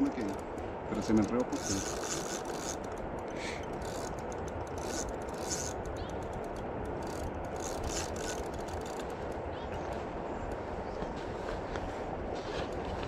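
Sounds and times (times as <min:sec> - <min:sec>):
river current rushing: 0:00.0 - 0:11.4
faint clicks and scrapes: 0:00.0 - 0:13.0.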